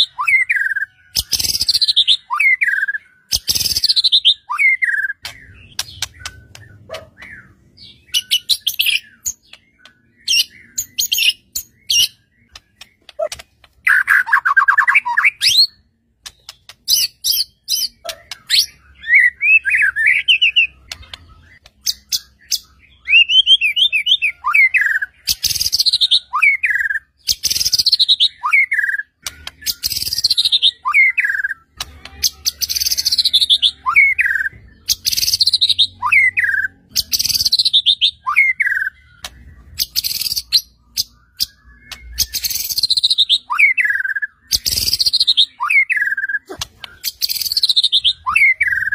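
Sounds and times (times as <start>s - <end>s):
bird singing loudly: 0.0s - 15.9s, 16.9s - 48.9s.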